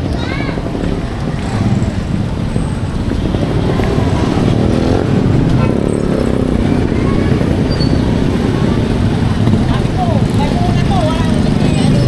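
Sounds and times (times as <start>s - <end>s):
road noise: 0.0s - 12.0s
motorcycle engine running: 1.4s - 12.0s.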